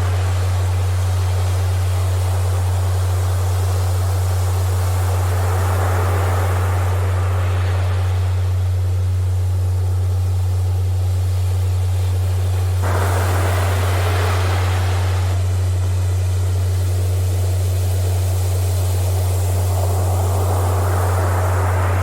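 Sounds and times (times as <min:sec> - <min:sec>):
ocean waves breaking: 0:00.0 - 0:22.0
steady low hum tone: 0:00.0 - 0:22.0.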